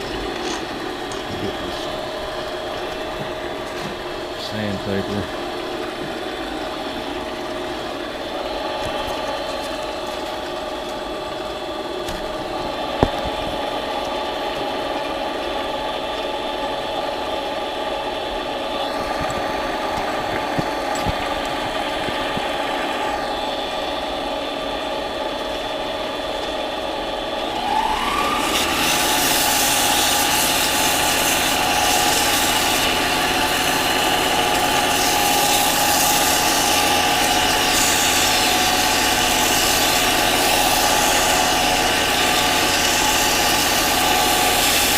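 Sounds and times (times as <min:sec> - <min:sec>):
lathe motor whining: 0:00.0 - 0:44.9.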